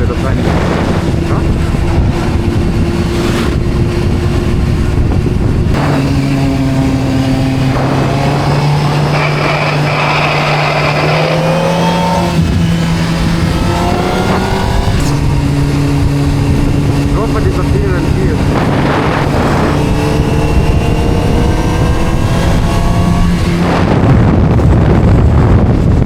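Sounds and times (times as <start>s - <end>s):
rushing noise: 0.0s - 26.0s
vehicle engine running: 0.0s - 26.0s.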